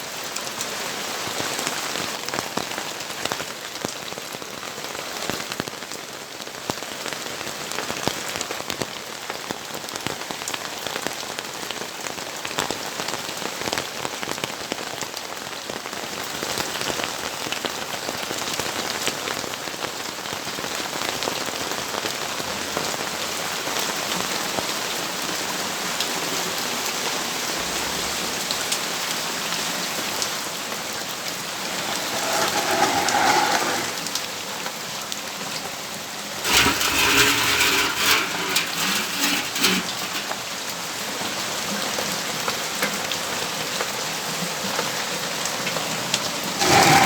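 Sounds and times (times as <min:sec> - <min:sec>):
rain pattering on surfaces: 0:00.0 - 0:31.8, 0:40.1 - 0:47.0.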